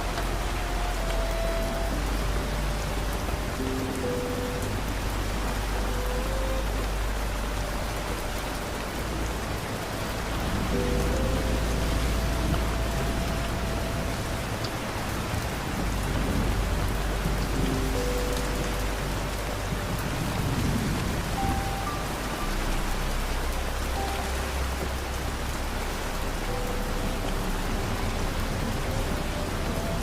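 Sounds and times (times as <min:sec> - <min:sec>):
deep low rumble: 0:00.0 - 0:30.0
rain falling: 0:00.0 - 0:30.0.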